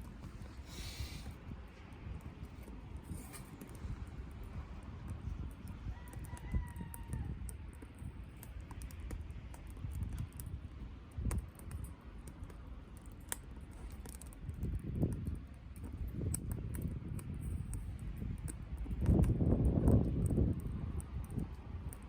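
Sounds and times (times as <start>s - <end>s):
low rumble of stove: 0.0s - 22.0s
wood fire crackling: 0.0s - 22.0s.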